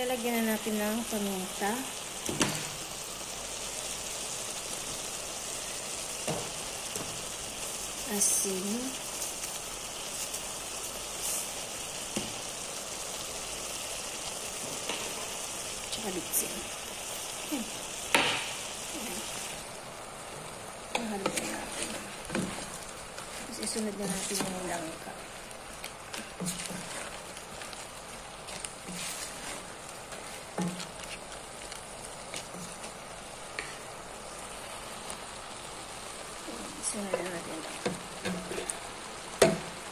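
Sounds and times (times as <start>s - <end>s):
food sizzling in a pot: 0.0s - 39.9s.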